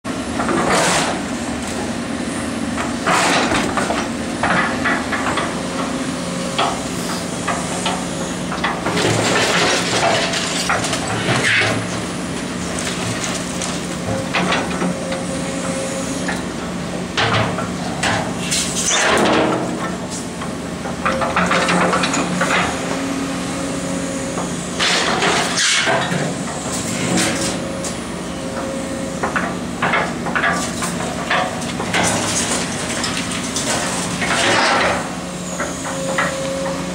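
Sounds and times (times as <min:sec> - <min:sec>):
excavator diesel engine running: 0:00.1 - 0:36.9.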